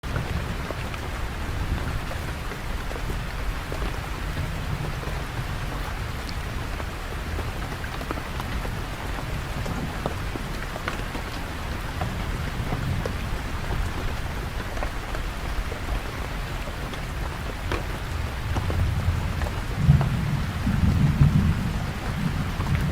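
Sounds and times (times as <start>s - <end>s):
raindrops ticking on surfaces: 0.0s - 22.9s
steady rain: 0.0s - 22.9s.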